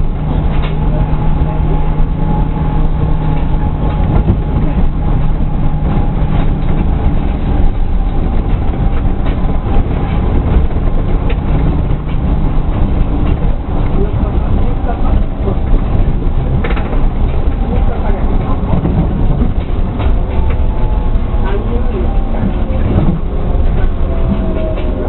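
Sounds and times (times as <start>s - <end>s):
tram car humming: 0.0s - 25.0s.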